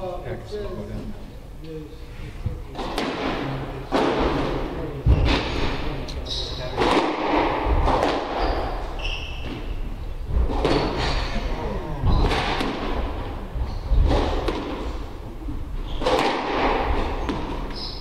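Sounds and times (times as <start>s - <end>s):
squash ball hitting rackets and walls: 2.5s - 11.4s, 12.0s - 18.0s.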